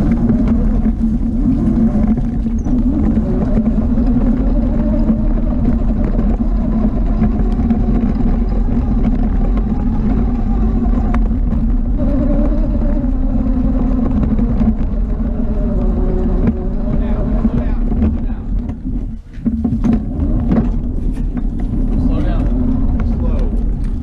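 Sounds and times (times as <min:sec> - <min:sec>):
quad engine running: 0:00.0 - 0:24.0.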